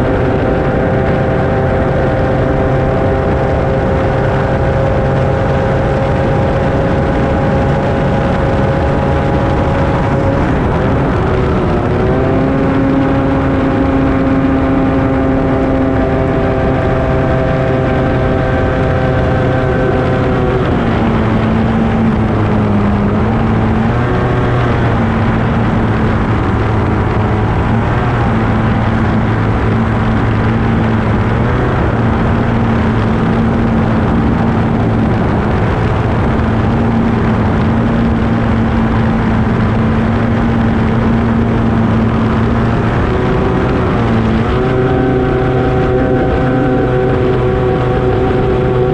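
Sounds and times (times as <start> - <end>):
outboard racing engine running hard: 0.0 - 48.9.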